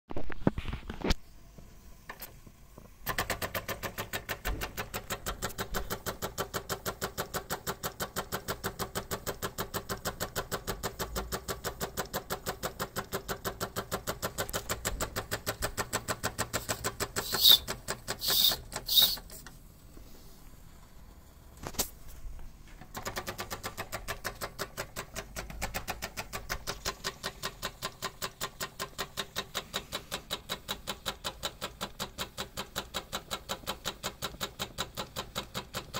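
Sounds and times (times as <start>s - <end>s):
model steam engine chuffing: 3.0s - 19.2s, 23.2s - 35.9s.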